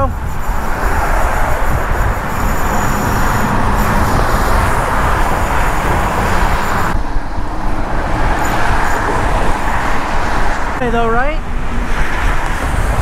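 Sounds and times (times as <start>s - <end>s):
road traffic hiss: 0.0s - 13.0s
wind rumbling on microphone: 0.0s - 13.0s.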